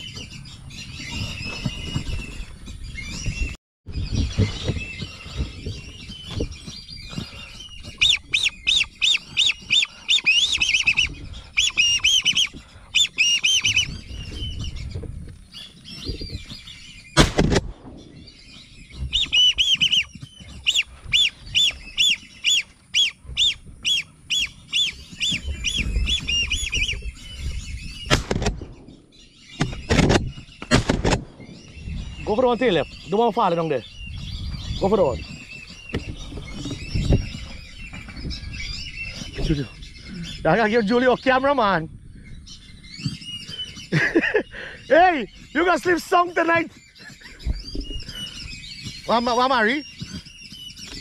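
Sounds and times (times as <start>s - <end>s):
ducks whistling: 0.0s - 17.2s, 18.0s - 51.0s.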